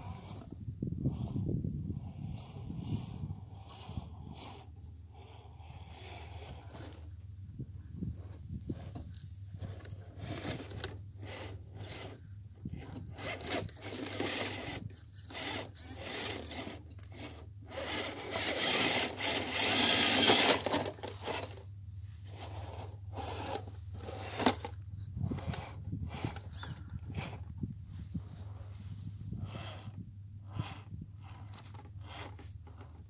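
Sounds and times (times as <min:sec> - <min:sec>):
drivetrain whirring: 0:00.0 - 0:33.0.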